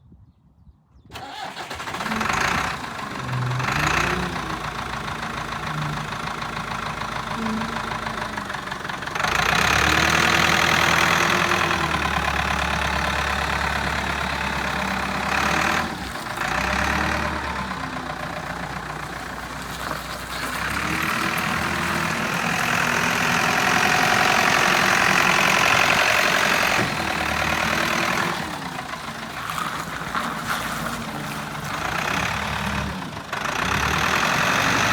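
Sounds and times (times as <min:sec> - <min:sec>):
diesel forklift engine revving: 0:01.1 - 0:34.9.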